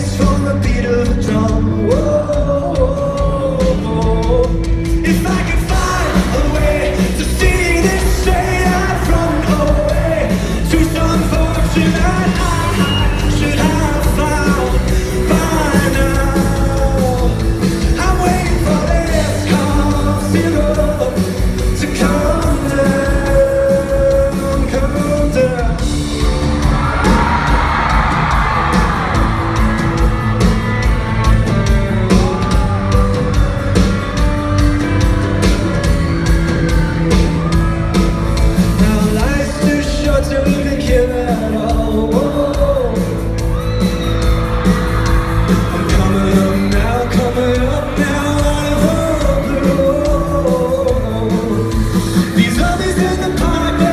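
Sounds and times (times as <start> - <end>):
man singing: 0.0 - 29.4, 30.8 - 34.2, 38.4 - 44.3, 45.4 - 53.9
rock band playing: 0.0 - 53.9
crowd yelling and whooping: 5.1 - 53.9.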